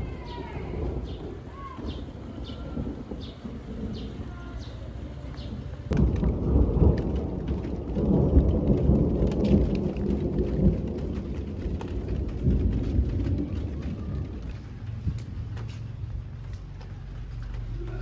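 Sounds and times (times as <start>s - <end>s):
rolling thunder: 0.0s - 15.2s
raindrop ticks: 0.7s - 18.0s.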